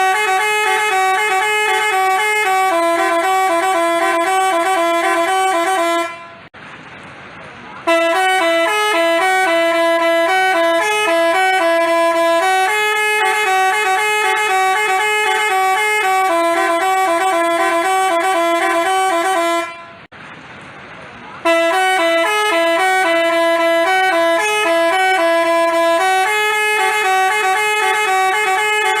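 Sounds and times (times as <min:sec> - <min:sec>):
multi-tone bus horn playing a tune: 0:00.0 - 0:06.5, 0:07.8 - 0:20.1, 0:21.4 - 0:29.0.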